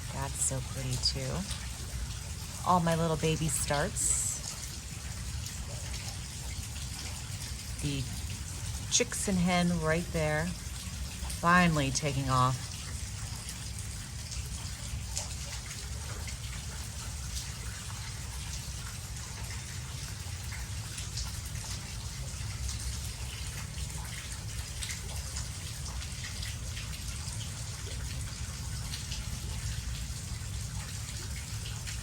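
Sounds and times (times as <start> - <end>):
rain falling: 0.0 - 32.0
raindrops ticking on surfaces: 0.0 - 32.0.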